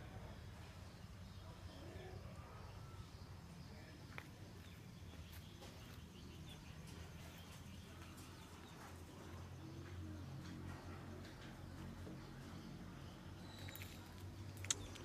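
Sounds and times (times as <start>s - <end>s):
faint bird chirps: 0.0s - 11.6s, 12.2s - 15.0s.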